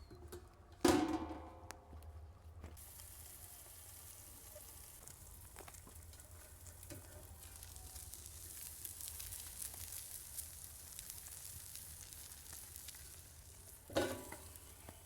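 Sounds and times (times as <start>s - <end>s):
fish sizzling on a griddle: 2.8s - 15.0s.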